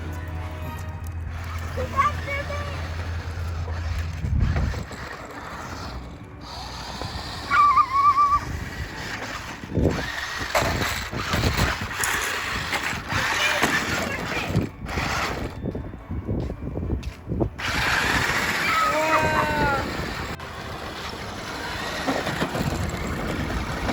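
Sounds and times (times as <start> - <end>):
rc truck motors whirring: 1.1 - 15.9, 17.6 - 23.9.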